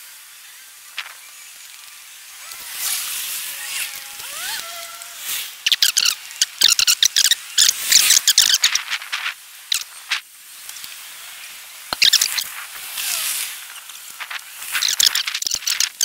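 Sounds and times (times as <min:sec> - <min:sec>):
sped-up chatter of clicks and squeaks: 0:00.5 - 0:11.0, 0:11.9 - 0:16.0.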